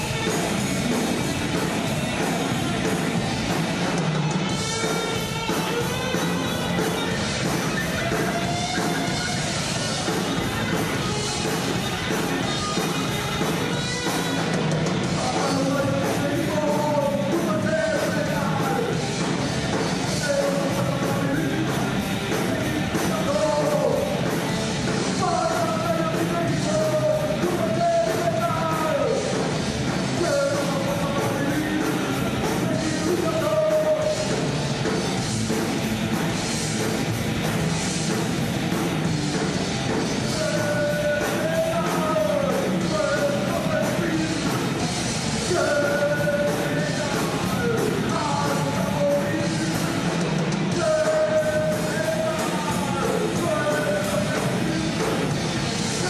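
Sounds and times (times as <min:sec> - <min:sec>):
bending guitar melody: 0:00.0 - 0:56.0
heavy metal band playing live: 0:00.0 - 0:56.0.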